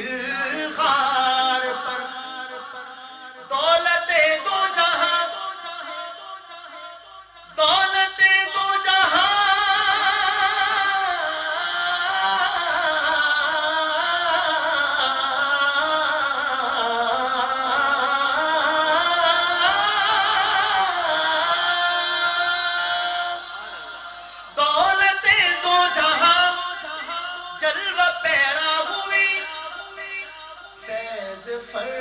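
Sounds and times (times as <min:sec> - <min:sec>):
man singing devotional song: 0:00.0 - 0:32.0.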